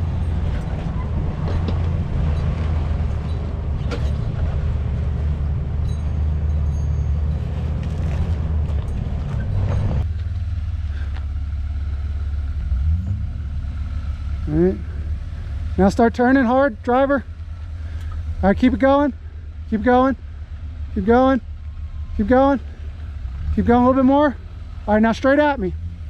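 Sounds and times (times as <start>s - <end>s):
engine rumbling at low revs: 0.0s - 26.0s.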